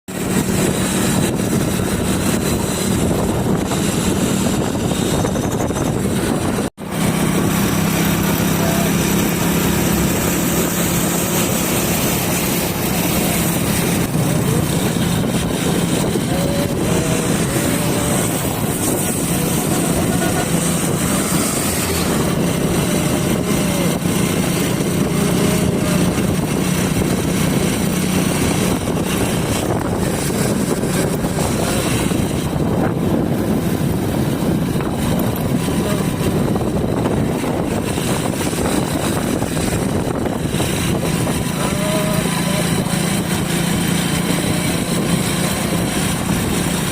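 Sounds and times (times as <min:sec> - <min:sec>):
motorcycle engine drone: 0:00.1 - 0:46.9
rushing wind noise: 0:00.1 - 0:46.9.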